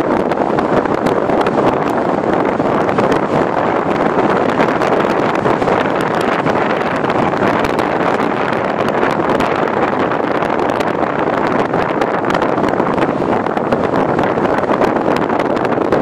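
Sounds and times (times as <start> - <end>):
tyre and road noise: 0.0 - 16.0
wind on microphone: 0.0 - 16.0.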